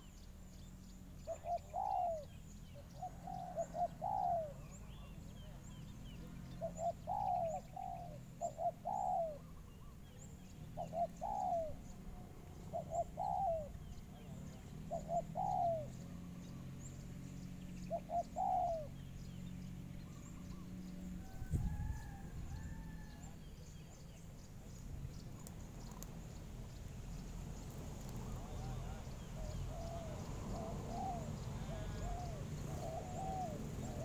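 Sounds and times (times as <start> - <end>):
dove cooing: 1.2 - 17.1, 17.9 - 24.1, 27.6 - 34.0.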